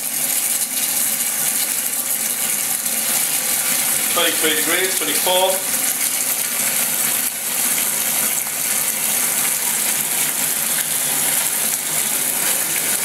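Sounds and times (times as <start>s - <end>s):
boiler heating: 0.0s - 13.0s.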